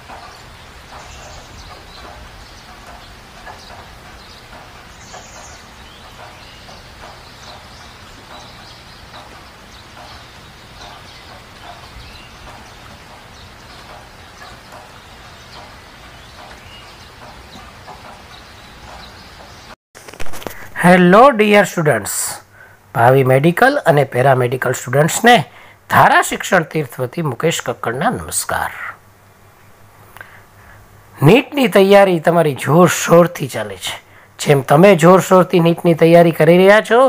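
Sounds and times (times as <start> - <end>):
background hum and hiss: 0.0 - 37.0.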